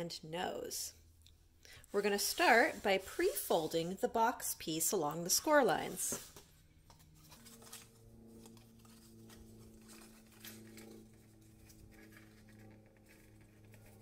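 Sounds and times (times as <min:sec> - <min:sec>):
quiet background music: 0:00.0 - 0:14.0.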